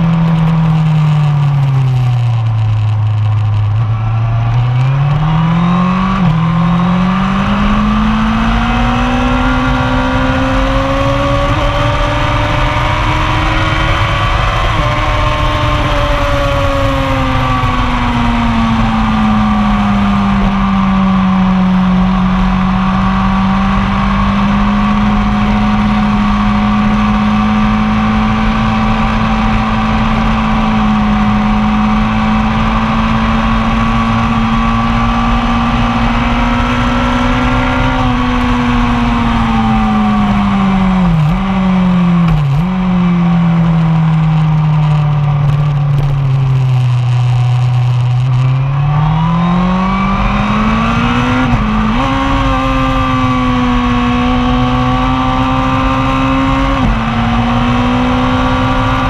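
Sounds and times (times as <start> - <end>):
motorcycle engine drone: 0.0 - 59.0.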